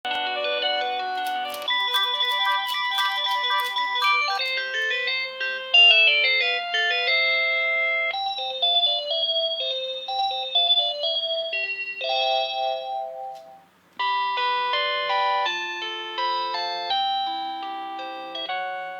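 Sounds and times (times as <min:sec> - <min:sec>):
phone ringtone melodies: 0:00.1 - 0:18.9.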